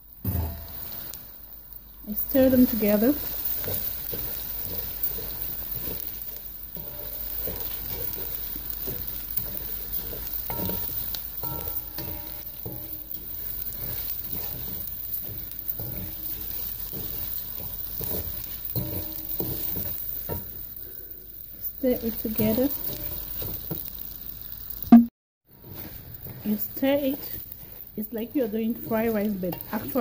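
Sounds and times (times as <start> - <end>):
rice and onions sizzling in oil: 0.0 - 30.0
wooden spoon scraping a pot: 2.4 - 20.6, 22.0 - 23.8, 25.5 - 30.0.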